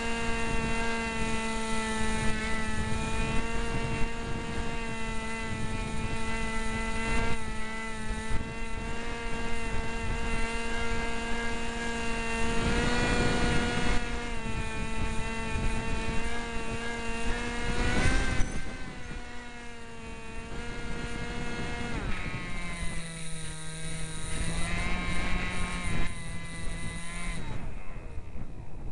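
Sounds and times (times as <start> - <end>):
electric motor and propeller whining: 0.0 - 28.9
wind buffeting microphone: 0.0 - 28.9.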